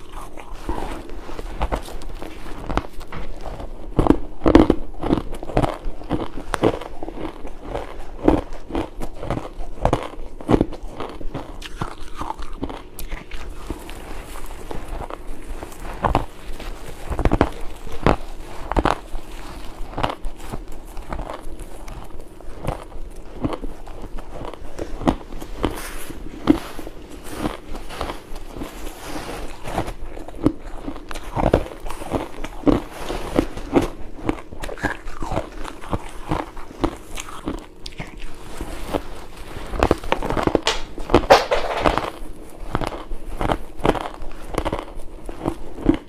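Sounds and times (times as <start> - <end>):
chewing crunchy ice: 0.0 - 46.0.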